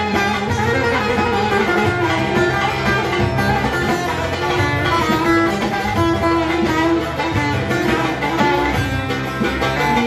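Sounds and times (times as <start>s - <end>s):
keyboard accompaniment: 0.0s - 10.0s
saz picking a melody: 0.0s - 10.0s.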